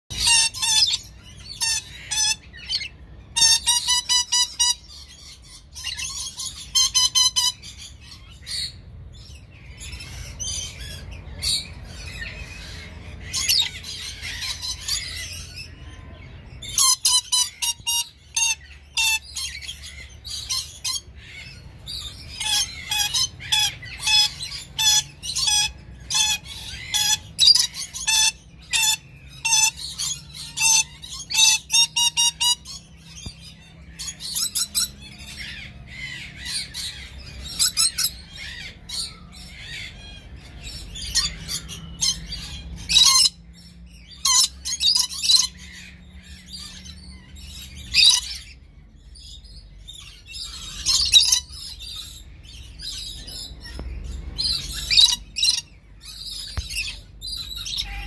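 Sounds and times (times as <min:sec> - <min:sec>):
parrots shrieking: 0:00.1 - 0:58.0
soft parrot chatter: 0:00.1 - 0:58.0.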